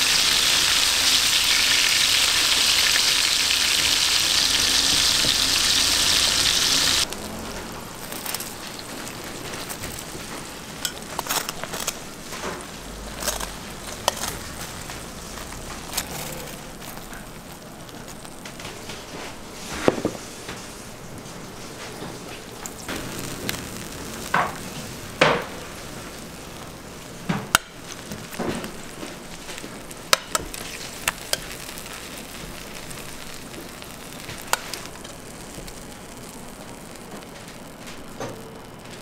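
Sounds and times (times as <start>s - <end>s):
butter sizzling: 0.0s - 39.0s.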